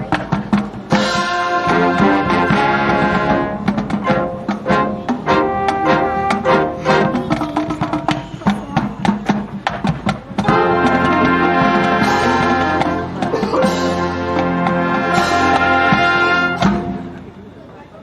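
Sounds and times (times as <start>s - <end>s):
drum strikes: 0.0s - 17.2s
marching band playing: 0.0s - 17.4s.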